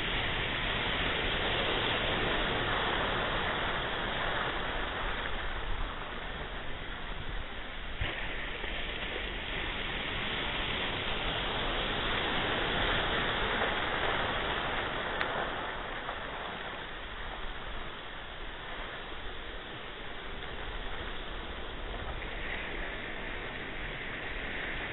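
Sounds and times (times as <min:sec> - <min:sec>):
ocean surf washing in: 0:00.0 - 0:24.9.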